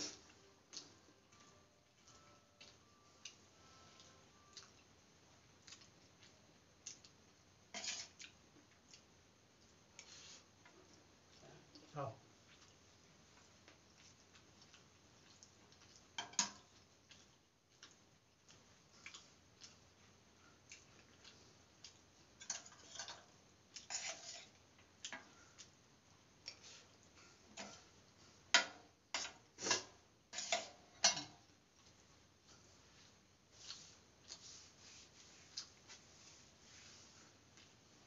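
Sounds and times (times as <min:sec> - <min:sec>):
man chewing food: 0:00.0 - 0:38.0.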